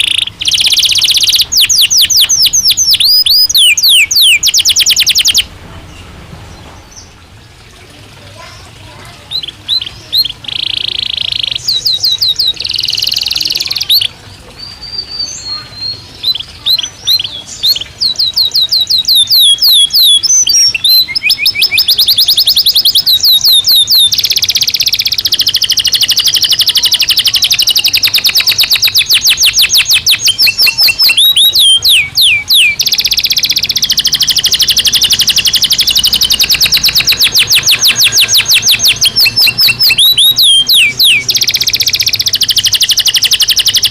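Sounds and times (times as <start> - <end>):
canary singing trills: 0.0 - 7.3, 8.2 - 43.9.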